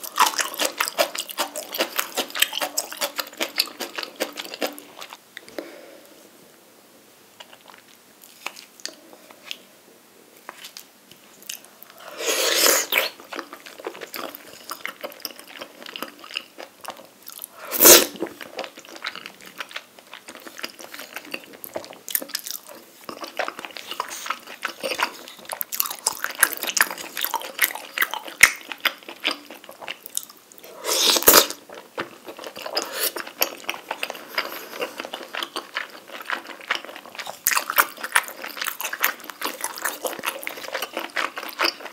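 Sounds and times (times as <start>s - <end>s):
wet chewing with mouth clicks: 0.0s - 5.6s, 10.5s - 41.9s.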